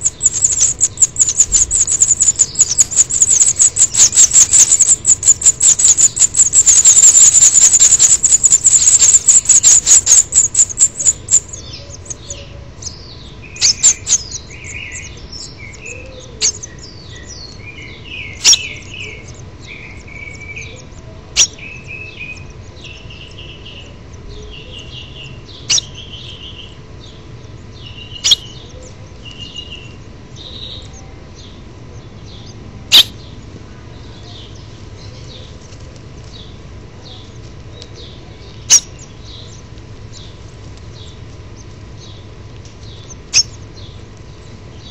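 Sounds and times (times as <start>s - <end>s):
nestlings chirping: 0.0s - 44.9s.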